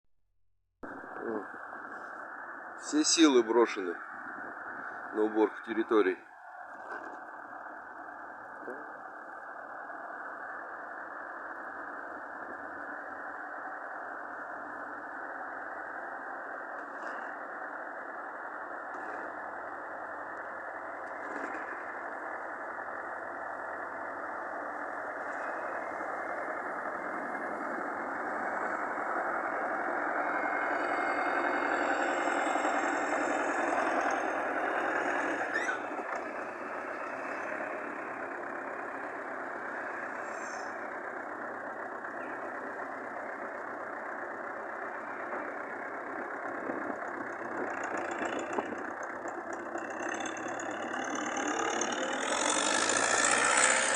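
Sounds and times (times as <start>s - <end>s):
vehicle engine running: 0.8s - 53.9s.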